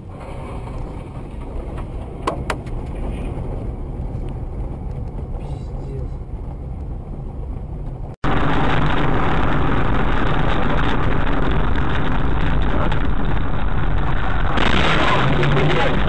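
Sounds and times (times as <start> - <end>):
car interior driving noise: 0.0 - 16.0.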